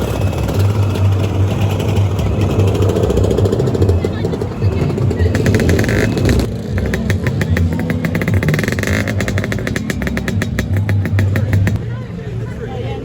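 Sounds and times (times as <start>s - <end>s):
scooter engine running: 0.0s - 12.7s.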